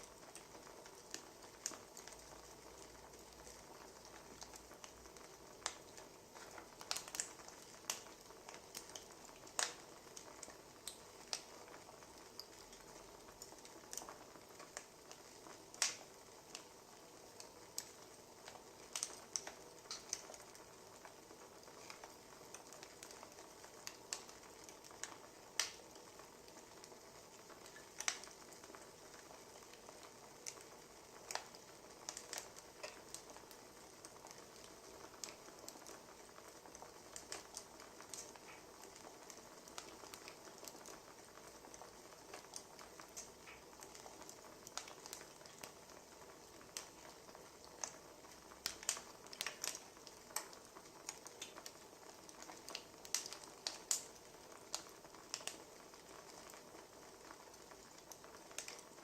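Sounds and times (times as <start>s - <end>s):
faint steady hiss: 0.0s - 59.0s
wood fire crackling: 0.0s - 59.0s.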